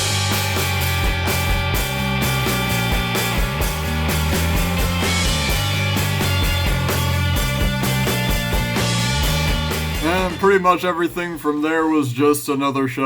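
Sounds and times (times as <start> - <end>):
rock music: 0.0 - 11.6.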